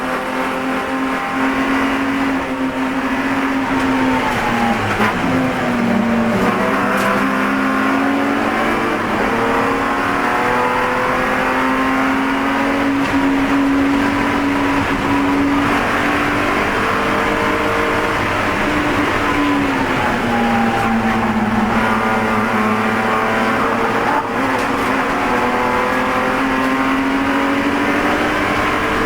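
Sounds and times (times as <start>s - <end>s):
race car engine running hard: 0.0s - 29.0s.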